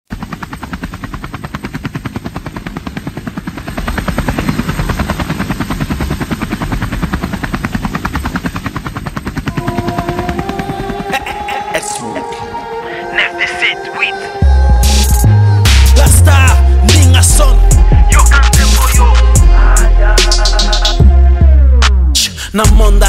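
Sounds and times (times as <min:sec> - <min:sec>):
helicopter rotor chopping: 0:00.1 - 0:12.4, 0:14.5 - 0:21.2, 0:22.6 - 0:23.0.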